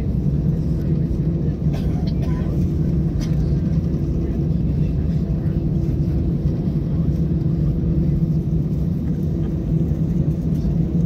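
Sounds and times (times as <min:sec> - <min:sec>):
jet engines idling in cabin: 0:00.0 - 0:11.0.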